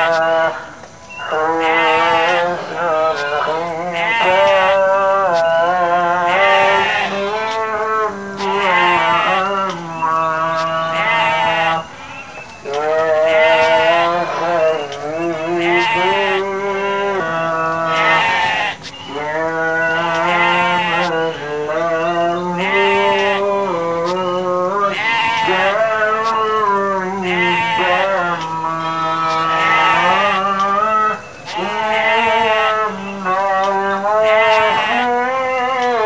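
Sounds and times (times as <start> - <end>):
sheep bleating: 0.0 - 36.0.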